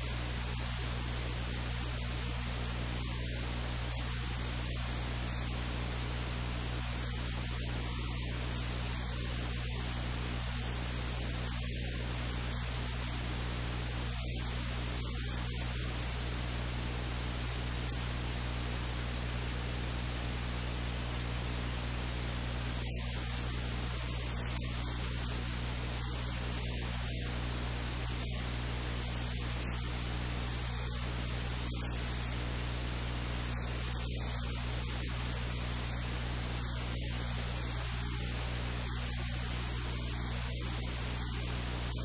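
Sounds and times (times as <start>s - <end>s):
low electrical hum: 0.0s - 42.0s
static hiss: 0.0s - 42.0s.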